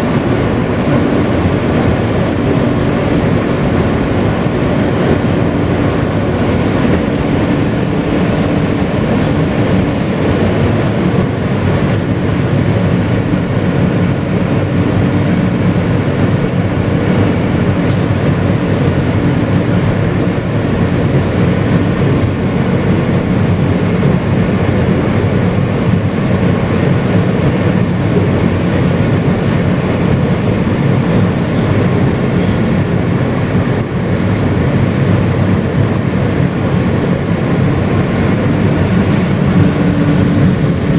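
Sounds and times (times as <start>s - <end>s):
wheels rumbling on rails: 0.0s - 40.9s.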